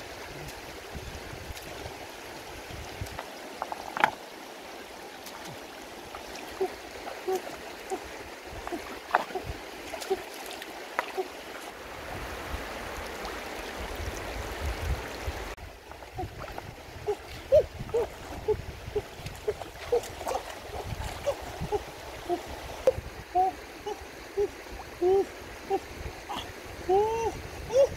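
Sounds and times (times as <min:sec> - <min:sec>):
small water splashes: 0:00.0 - 0:27.9
stream running over rocks: 0:00.0 - 0:27.9.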